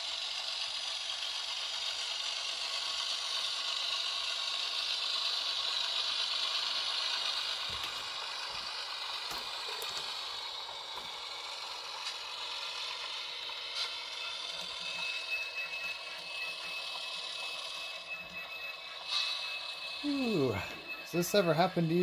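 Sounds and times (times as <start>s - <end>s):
model train wheels whirring and rattling: 0.0s - 22.0s.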